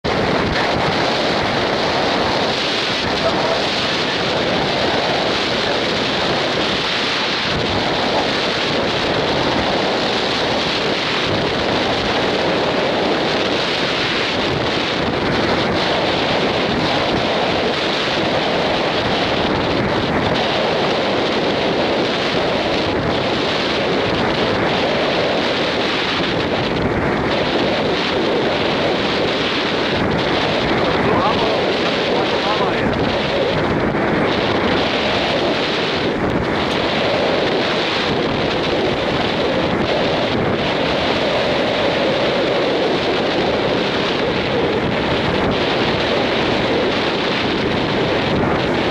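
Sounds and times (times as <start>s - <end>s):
sea water rushing along hull: 0.0s - 48.9s
wind buffeting microphone: 0.0s - 48.9s.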